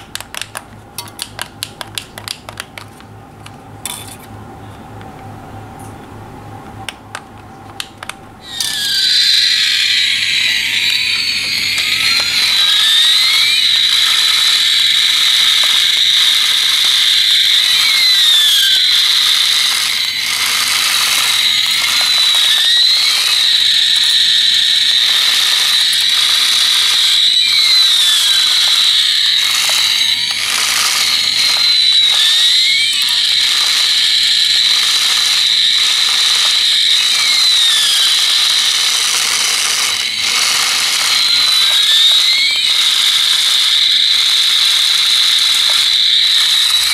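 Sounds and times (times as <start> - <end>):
toy motor and gears whirring: 0.0 - 3.0, 7.8 - 46.9
high electronic whine: 8.4 - 46.9.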